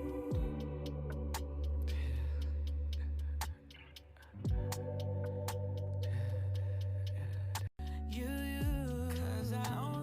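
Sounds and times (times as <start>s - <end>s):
deep sliding bass: 0.0s - 10.0s
ticking hi-hat: 0.0s - 10.0s.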